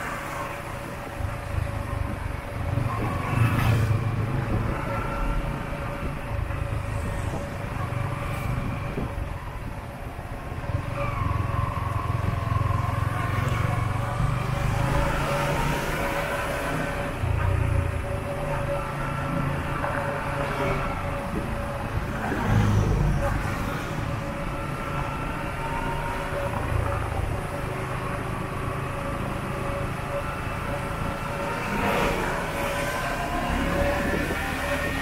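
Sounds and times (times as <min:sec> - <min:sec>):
road noise rumble: 0:00.0 - 0:35.0.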